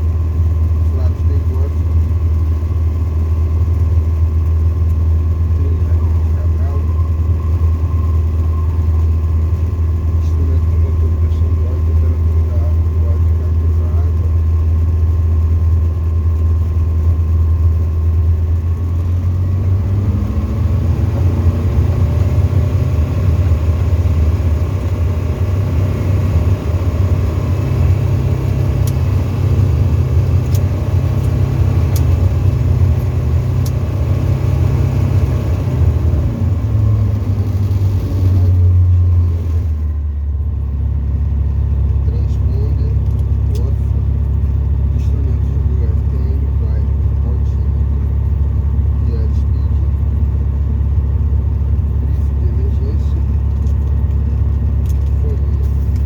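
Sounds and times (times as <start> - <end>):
propeller engine droning: 0.0 - 56.0.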